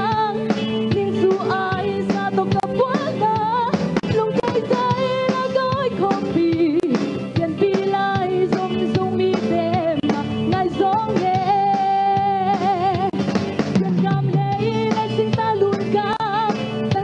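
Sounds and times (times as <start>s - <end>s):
backing music with a steady beat: 0.0s - 17.0s
woman singing into a microphone: 0.0s - 17.0s.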